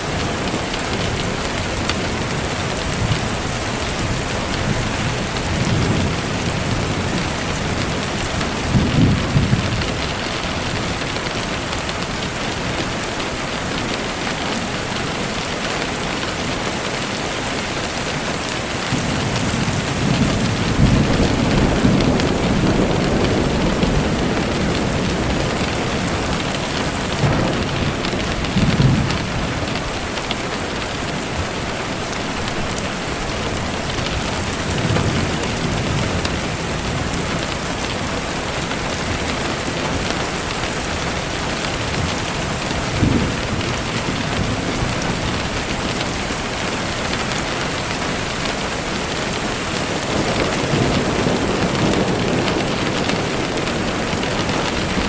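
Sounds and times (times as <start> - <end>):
low thunder rumbles: 0.0 - 12.8, 18.6 - 31.6, 32.3 - 55.0
steady rain falling: 0.0 - 55.0.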